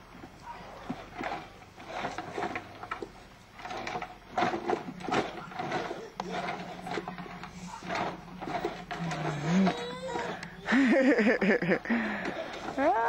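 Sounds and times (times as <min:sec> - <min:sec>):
plastic wheels rolling on rough ground: 0:00.0 - 0:13.0
toy truck electric motor whirring: 0:00.8 - 0:13.0.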